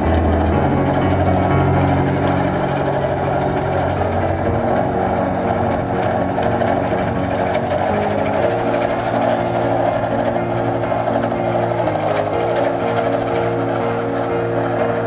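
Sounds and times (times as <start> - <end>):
background music sustained notes: 0.0 - 15.0
dense steady drone: 0.0 - 15.0.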